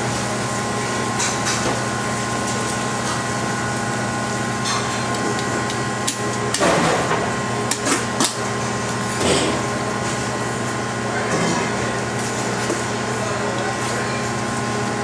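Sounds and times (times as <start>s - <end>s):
kitchen machinery hum: 0.0s - 15.0s.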